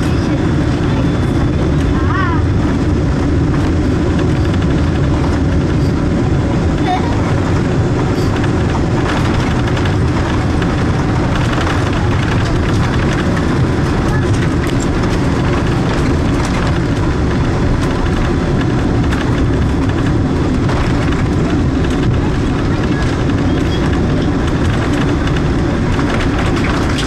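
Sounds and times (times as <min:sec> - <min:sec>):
jet engine noise: 0:00.0 - 0:27.0
wheels rumbling on runway: 0:00.0 - 0:27.0.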